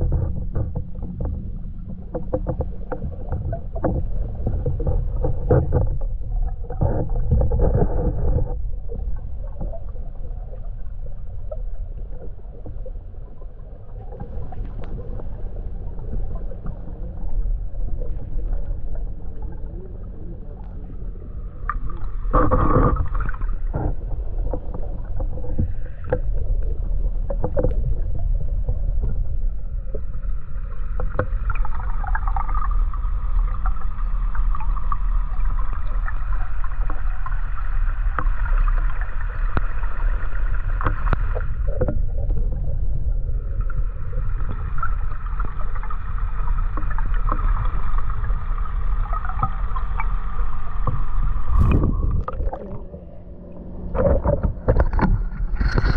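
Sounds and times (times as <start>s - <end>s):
faint hum: 0.0s - 55.9s
muffled underwater rumble: 0.0s - 55.9s.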